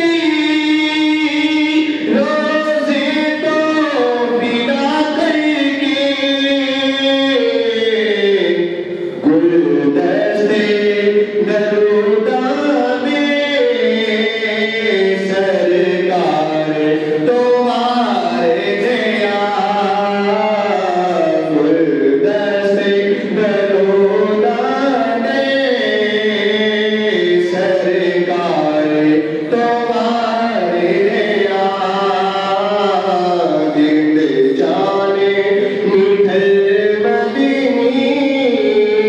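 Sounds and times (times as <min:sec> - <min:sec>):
man singing devotional song: 0:00.0 - 0:39.0.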